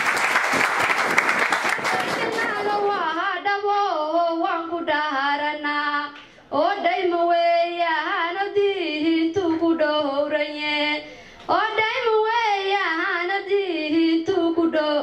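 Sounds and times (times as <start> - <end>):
woman singing unaccompanied: 2.0 - 15.0.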